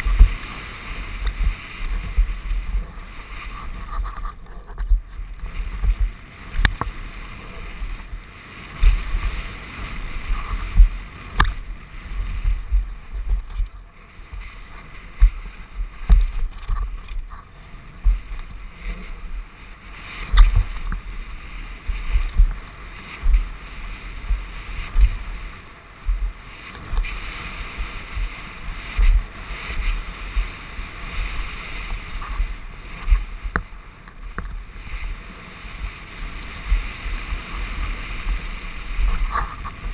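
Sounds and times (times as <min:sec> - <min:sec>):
bike knocking and rattling: 0:00.0 - 0:08.1, 0:08.7 - 0:19.4, 0:24.2 - 0:34.6, 0:36.6 - 0:39.9
tyre noise on dirt: 0:00.0 - 0:39.9
wind buffeting microphone: 0:00.0 - 0:39.9.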